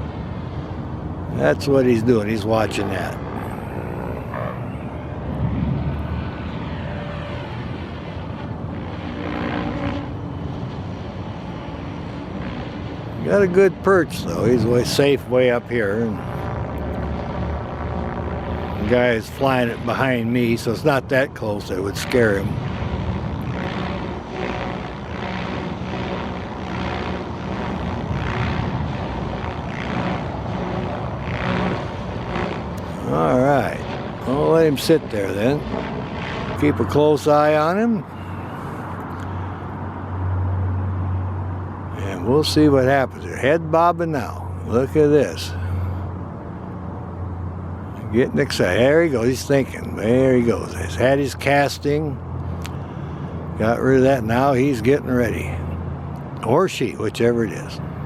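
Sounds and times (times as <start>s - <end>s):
model helicopter drone: 0.0s - 58.0s.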